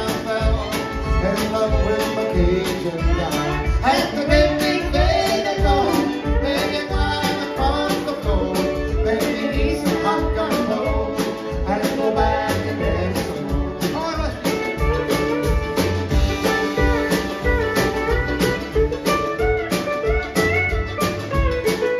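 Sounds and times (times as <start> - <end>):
live country band with singing: 0.0 - 21.9.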